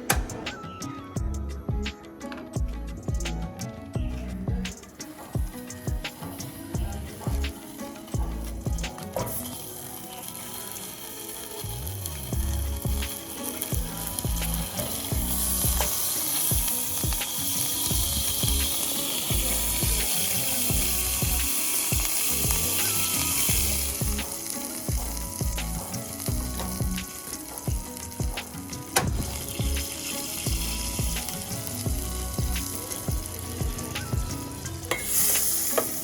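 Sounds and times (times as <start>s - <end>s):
food sizzling: 4.1s - 36.0s.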